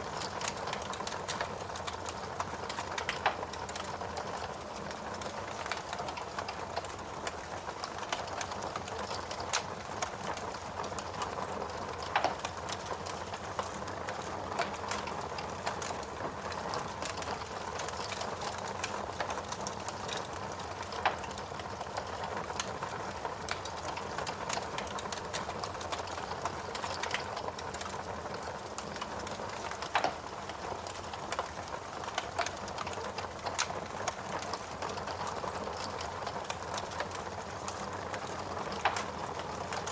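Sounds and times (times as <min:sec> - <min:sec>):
wood fire crackling: 0:00.0 - 0:39.9
fire pops: 0:00.1 - 0:11.3, 0:12.0 - 0:22.7, 0:28.7 - 0:39.9.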